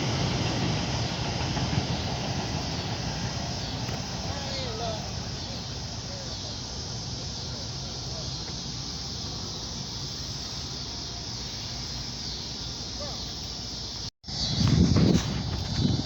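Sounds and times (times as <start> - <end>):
outdoor background hiss: 0.0 - 15.5.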